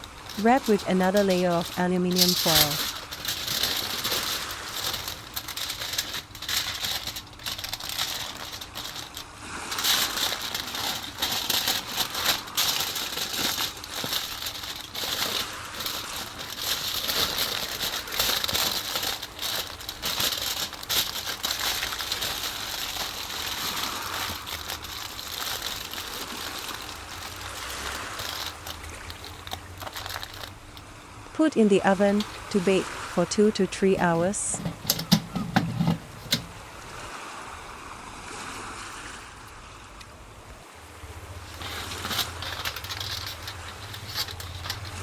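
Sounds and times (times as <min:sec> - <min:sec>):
aluminium foil crinkling: 0:00.0 - 0:36.6, 0:41.4 - 0:45.0.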